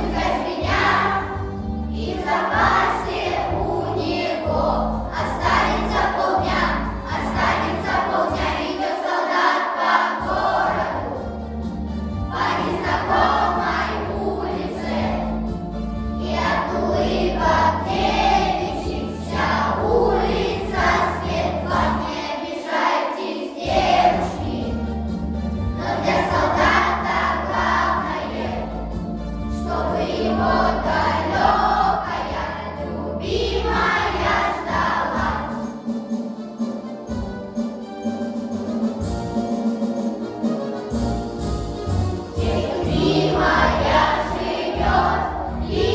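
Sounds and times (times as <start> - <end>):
instrumental accompaniment: 0.0 - 32.5, 33.2 - 45.9
children's choir singing: 0.0 - 39.0, 41.9 - 45.9.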